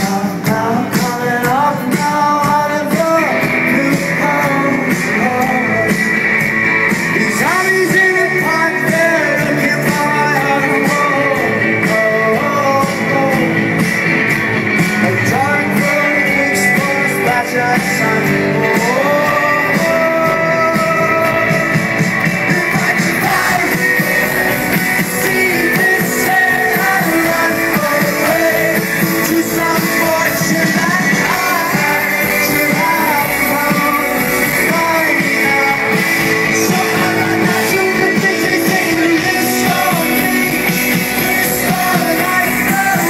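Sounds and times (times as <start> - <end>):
lead vocalist singing: 0.0 - 43.0
rock band playing live: 0.0 - 43.0.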